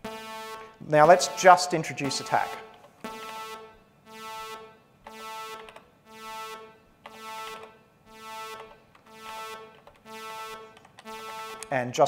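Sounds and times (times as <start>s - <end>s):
buzzy synthesizer note: 0.0s - 12.0s.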